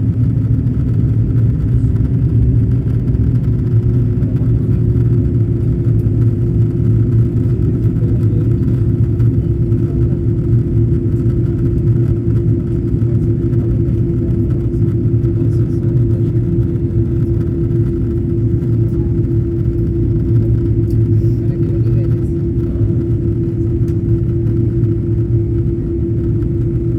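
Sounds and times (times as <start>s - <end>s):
airliner cabin engine rumble: 0.0s - 26.9s
steady cabin hum: 0.0s - 26.9s.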